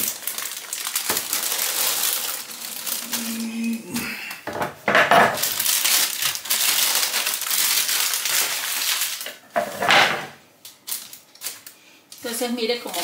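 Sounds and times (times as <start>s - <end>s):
baking paper crinkling: 0.0s - 4.1s, 5.1s - 9.9s, 10.6s - 13.0s.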